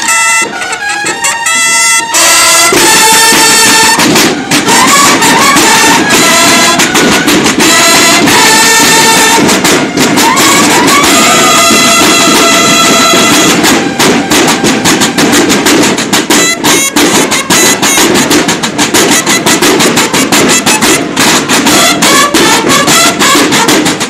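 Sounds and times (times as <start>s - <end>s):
bugles playing a march: 0.0s - 24.0s
snare drums: 0.0s - 24.0s.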